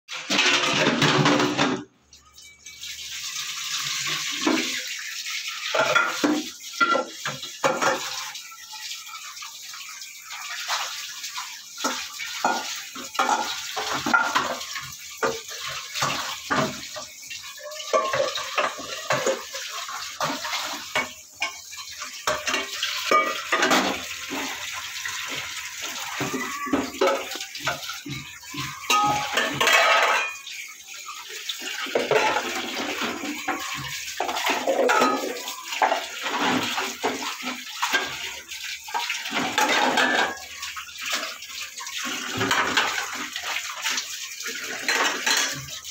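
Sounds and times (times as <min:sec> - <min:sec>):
dishes knocking and clattering: 0:00.1 - 0:01.9, 0:03.8 - 0:08.3, 0:11.7 - 0:41.3, 0:42.0 - 0:45.9
running tap water: 0:00.1 - 0:45.9.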